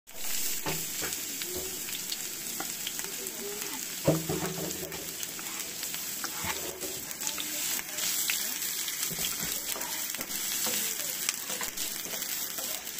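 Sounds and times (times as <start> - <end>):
onion sizzling in hot oil: 0.1 - 12.9.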